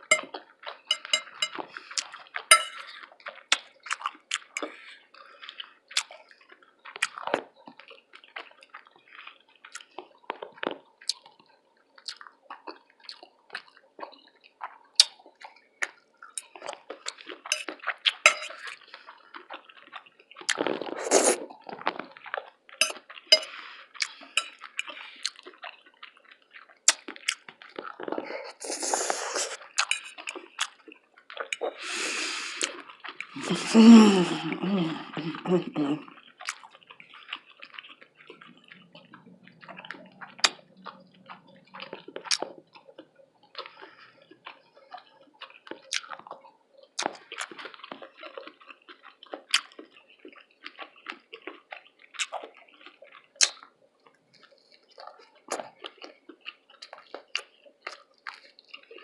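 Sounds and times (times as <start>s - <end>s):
lip smacks: 0.0s - 59.0s
wet chewing and mouth sounds: 0.0s - 59.0s.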